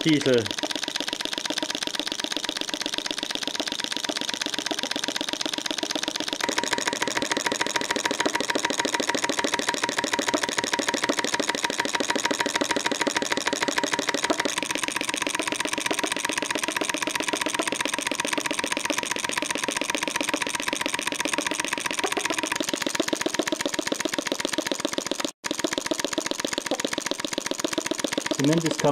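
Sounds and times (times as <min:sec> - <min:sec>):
model engine running: 0:00.0 - 0:28.9.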